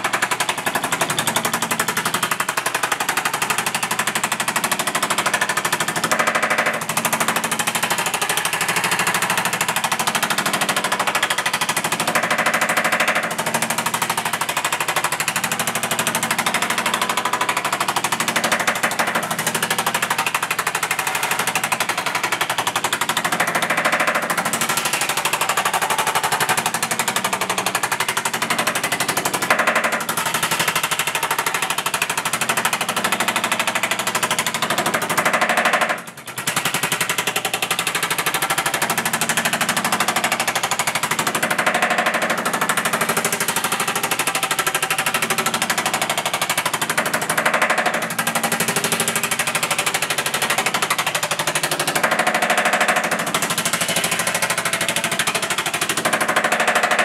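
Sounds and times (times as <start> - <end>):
power hammer pounding sheet metal: 0.0 - 57.0.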